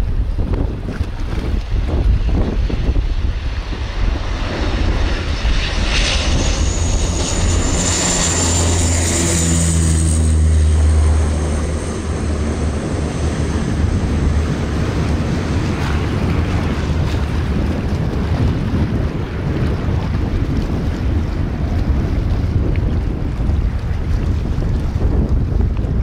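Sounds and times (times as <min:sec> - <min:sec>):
turboprop engines with turbine whine: 0:00.0 - 0:26.0.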